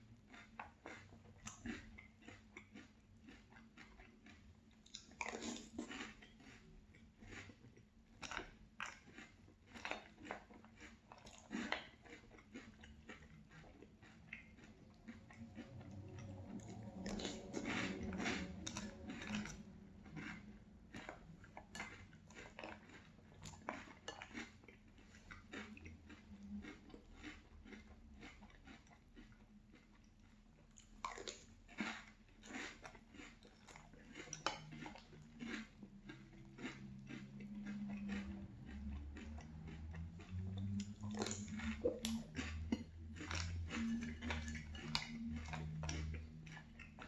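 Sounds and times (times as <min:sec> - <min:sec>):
crunchy cereal chewing: 0:00.0 - 0:47.0.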